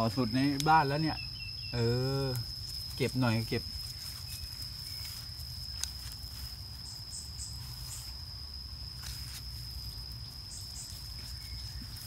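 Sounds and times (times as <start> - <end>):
grass rustling: 0.0 - 12.0
insect trilling: 0.0 - 12.0.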